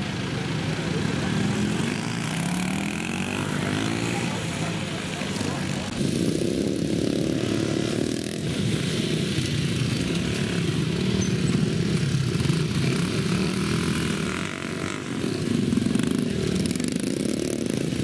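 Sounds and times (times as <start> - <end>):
off-road motorcycle engines: 0.0 - 18.0.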